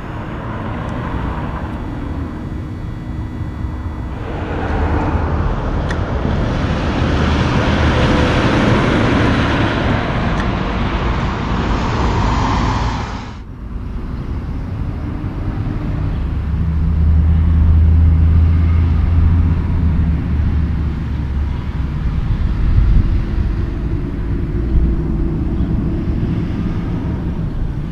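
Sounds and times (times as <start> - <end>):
diesel truck engine droning: 0.0 - 27.9
highway traffic noise: 0.0 - 27.9.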